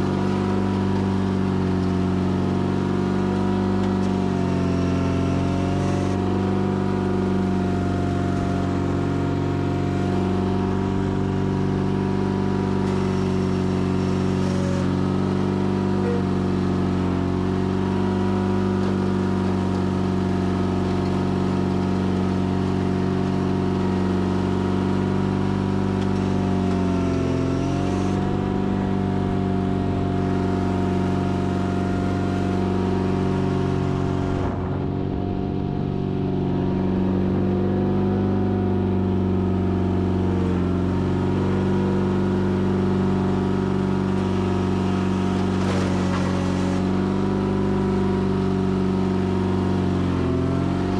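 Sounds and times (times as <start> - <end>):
garden tractor engine running: 0.0 - 50.9.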